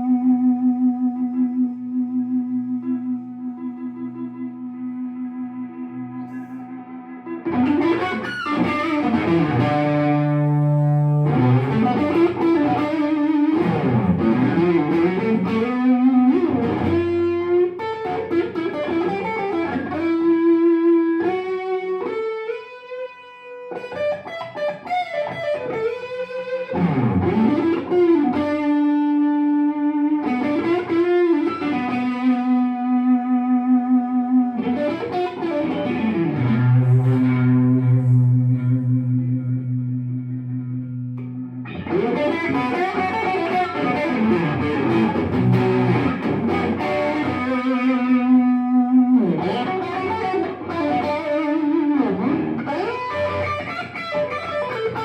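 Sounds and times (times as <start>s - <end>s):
electric guitar lead melody: 0.0s - 55.0s.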